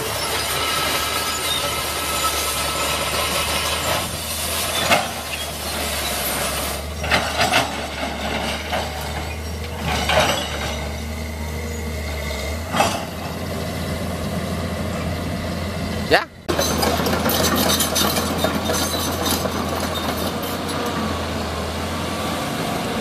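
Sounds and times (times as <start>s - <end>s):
hydraulic excavator running: 0.0s - 23.0s.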